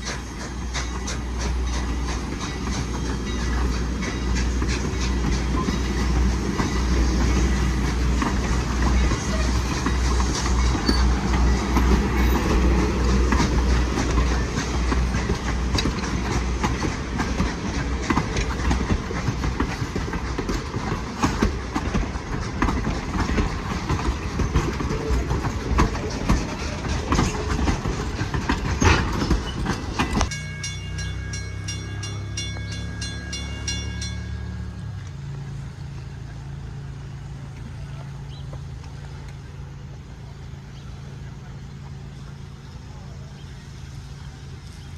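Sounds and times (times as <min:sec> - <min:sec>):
train wheels clacking over rail joints: 0:00.0 - 0:44.9.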